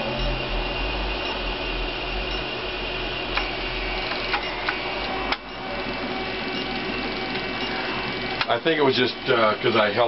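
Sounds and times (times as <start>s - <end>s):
stepper motors whining: 0.0s - 10.0s.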